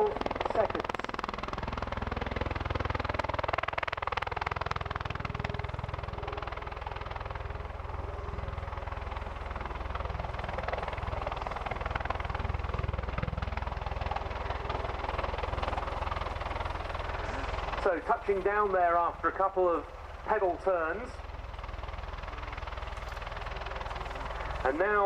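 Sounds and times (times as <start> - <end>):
tiltrotor aircraft rotors and engines: 0.0 - 25.0.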